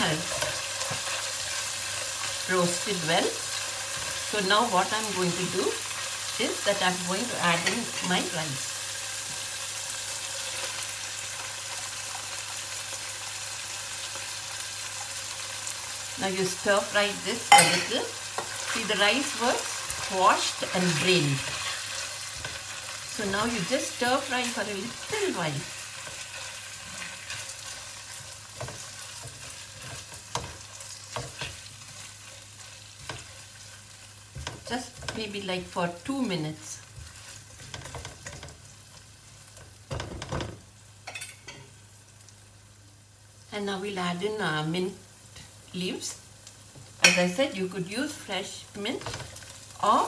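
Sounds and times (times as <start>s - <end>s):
chicken sizzling in oil: 0.0s - 50.0s.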